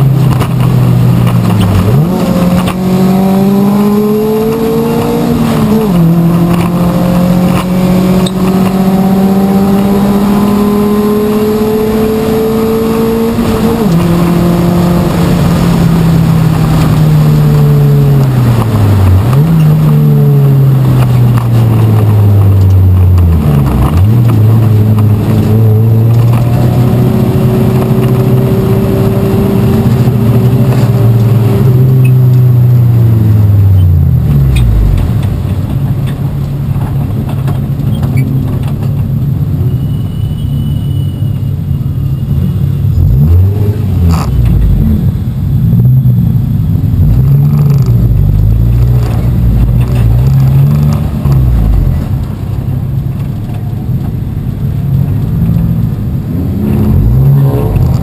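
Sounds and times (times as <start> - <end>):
race car engine revving: 0.0 - 35.4, 42.9 - 54.0, 54.6 - 58.0.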